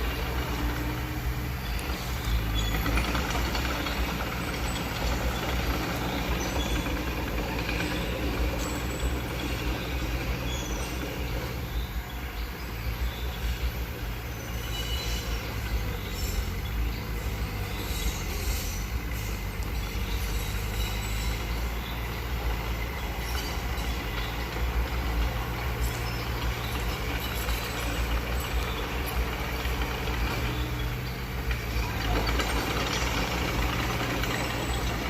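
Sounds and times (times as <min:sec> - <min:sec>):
bulldozer diesel engine humming: 0:00.0 - 0:35.0
metallic squeaks from steel tracks: 0:00.0 - 0:35.0.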